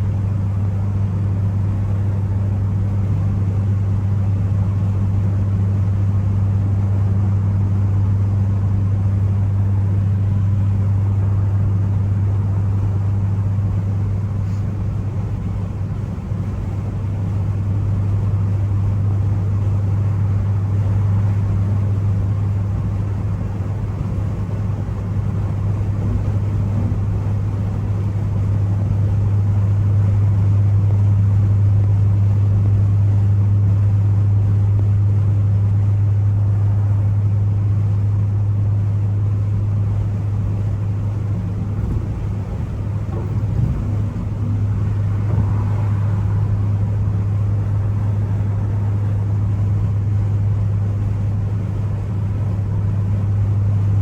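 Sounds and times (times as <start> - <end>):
car engine cruising drone: 0.0 - 54.0.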